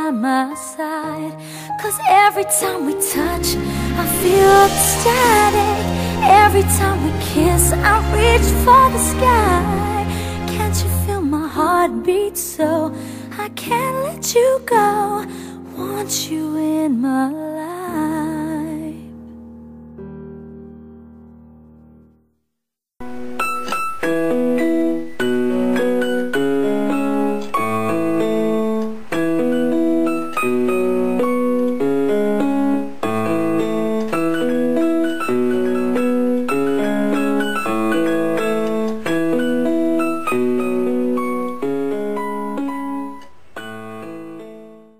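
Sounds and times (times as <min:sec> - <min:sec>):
piano music: 0:00.0 - 0:22.2, 0:23.0 - 0:44.9.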